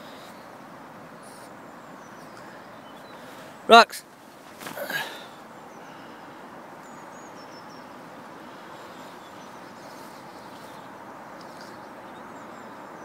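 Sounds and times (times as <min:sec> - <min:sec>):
open-air background noise: 0:00.0 - 0:13.0.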